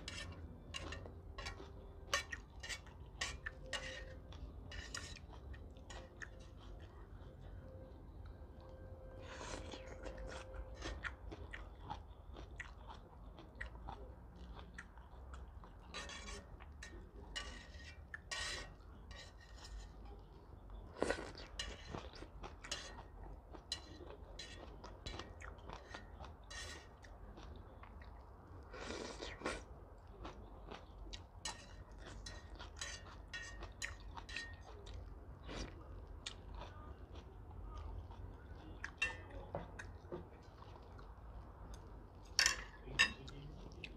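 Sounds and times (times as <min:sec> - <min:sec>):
person chewing noodles: 0:00.0 - 0:17.3, 0:18.0 - 0:39.0, 0:39.8 - 0:42.4.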